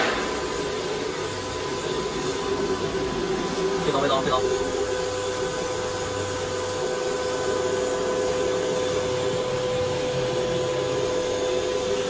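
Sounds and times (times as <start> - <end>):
high hum: 0.0 - 12.0.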